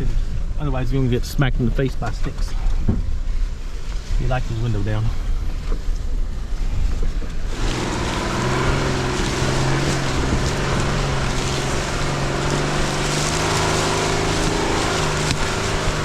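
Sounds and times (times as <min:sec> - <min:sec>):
engine humming at low crawl: 0:00.0 - 0:16.0.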